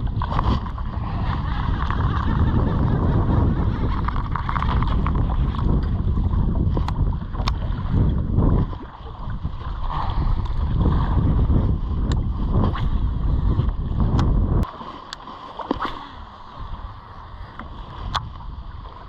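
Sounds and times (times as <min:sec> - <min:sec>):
wind buffeting microphone: 0:00.0 - 0:14.9, 0:15.7 - 0:19.0.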